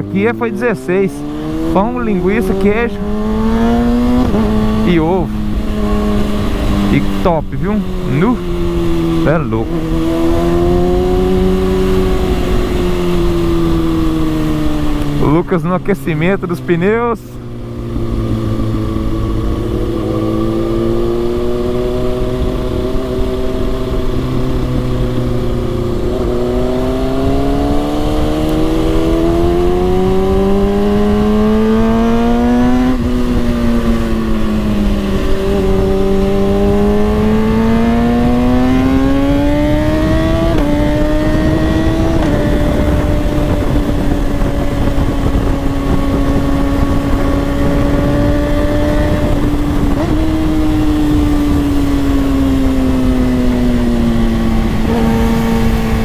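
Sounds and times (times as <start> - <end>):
motorcycle engine accelerating: 0.0 - 56.0
wind noise on microphone: 1.1 - 15.2, 17.4 - 56.0.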